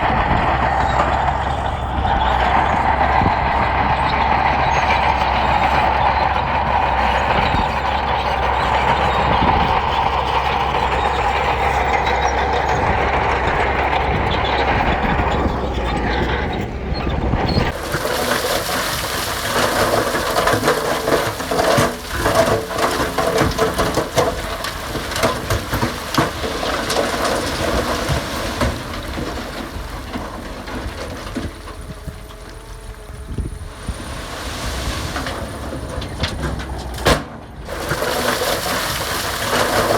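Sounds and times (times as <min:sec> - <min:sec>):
diesel engine running: 0:00.0 - 0:39.9
machinery clanking and rattling: 0:00.0 - 0:39.9.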